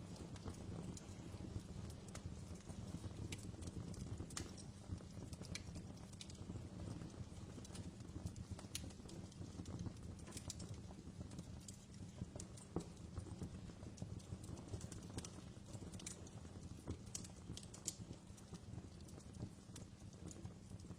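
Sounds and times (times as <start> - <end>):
wood fire crackling: 0.0 - 20.9.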